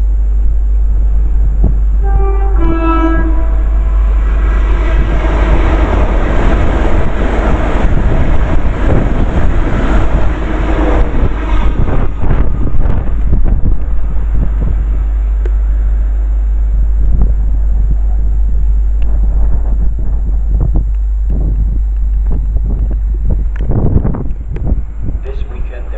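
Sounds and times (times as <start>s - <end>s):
train passing: 0.0s - 20.7s, 22.6s - 25.9s
wind noise on microphone: 0.0s - 25.9s.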